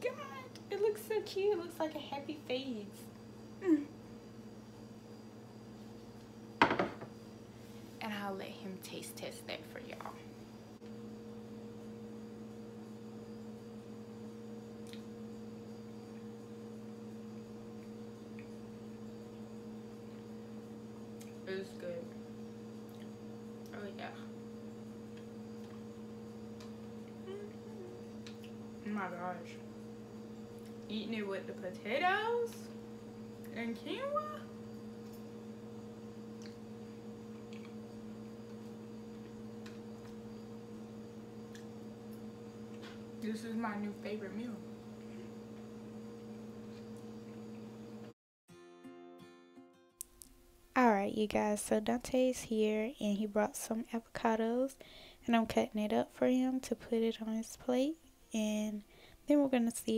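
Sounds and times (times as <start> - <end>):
steady electrical hum: 0.0 - 48.2, 50.0 - 59.9.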